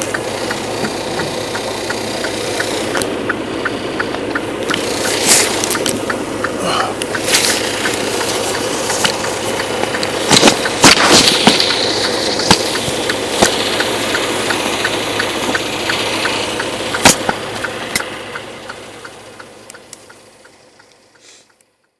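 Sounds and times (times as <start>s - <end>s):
light ticking: 0.0s - 21.9s
truck engine running: 0.0s - 21.9s.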